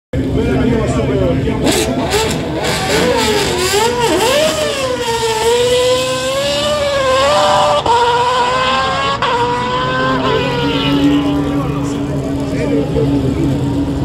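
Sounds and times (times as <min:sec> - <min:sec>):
race car engine accelerating hard: 0:00.2 - 0:14.0.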